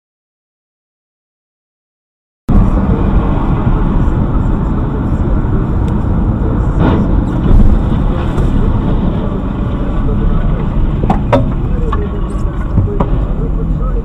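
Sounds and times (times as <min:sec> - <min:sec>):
car road and engine noise: 0:02.5 - 0:14.0.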